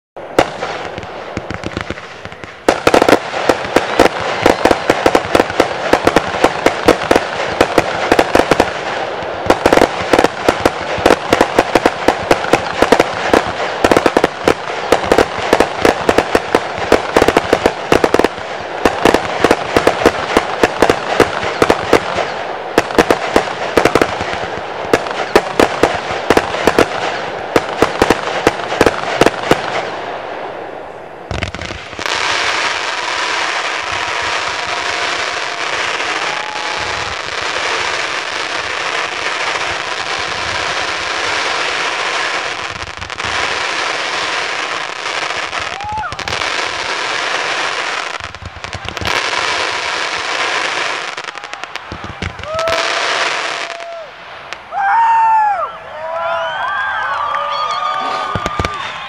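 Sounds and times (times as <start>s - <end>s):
fireworks popping and bursting: 0.2s - 30.6s, 31.2s - 54.8s, 57.9s - 59.0s.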